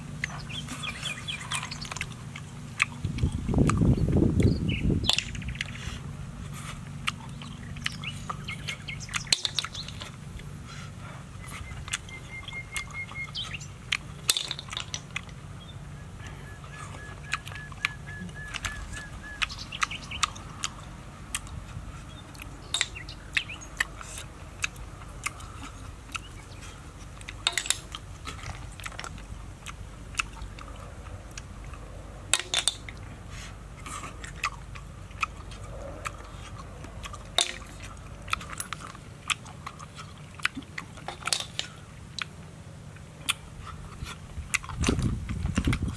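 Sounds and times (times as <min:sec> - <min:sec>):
chewing and sucking snails: 0:00.0 - 0:45.9.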